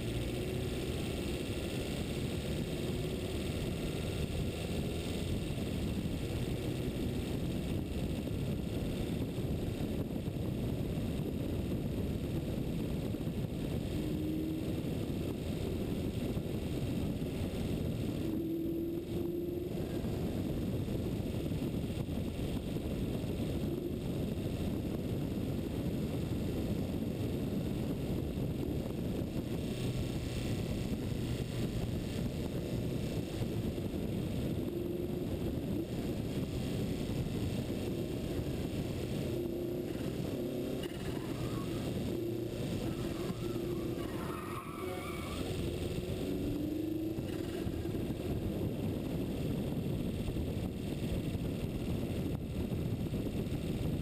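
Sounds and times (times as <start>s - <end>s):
wind and road rush: 0.0s - 54.0s.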